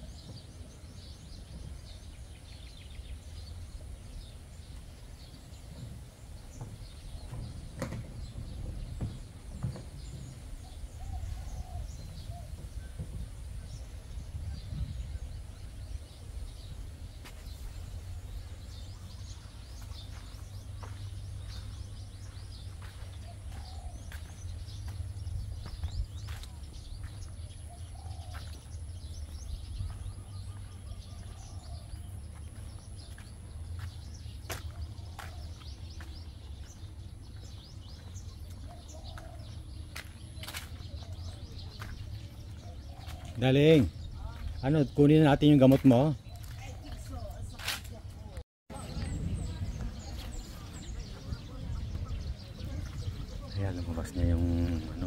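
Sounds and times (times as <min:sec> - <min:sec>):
small birds chirping: 0:00.0 - 0:55.0
steady low rumble: 0:00.1 - 0:44.6, 0:46.2 - 0:55.0.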